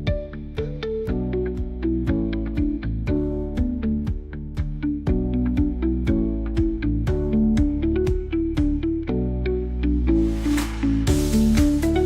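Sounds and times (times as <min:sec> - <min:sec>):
plucked melody over a beat: 0:00.0 - 0:12.0.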